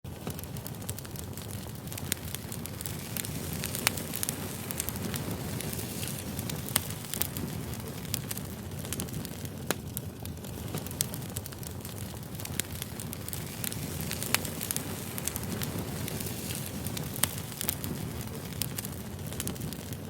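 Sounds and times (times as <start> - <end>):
fire crackling and popping: 0.0 - 20.0
flames rushing: 0.1 - 20.0.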